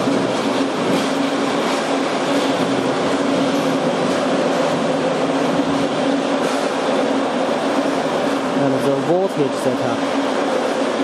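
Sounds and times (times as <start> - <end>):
machinery running with low hum: 0.0 - 11.0.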